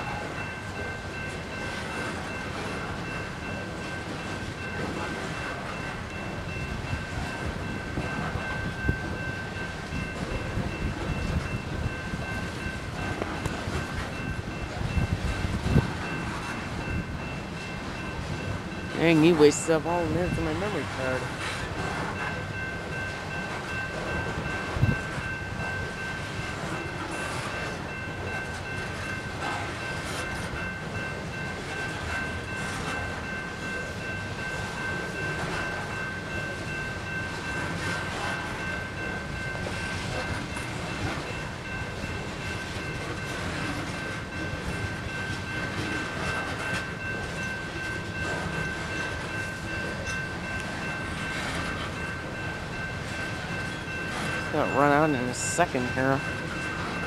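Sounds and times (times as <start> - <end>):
crossing bell ringing: 0.0 - 57.0
train cars rumbling and clacking: 0.0 - 57.0.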